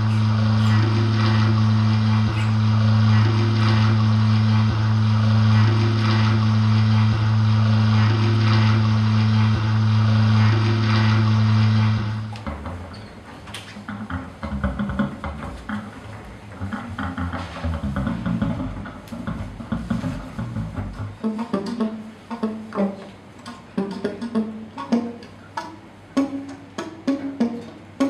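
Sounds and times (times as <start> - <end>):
low electric hum drone: 0.0 - 28.0.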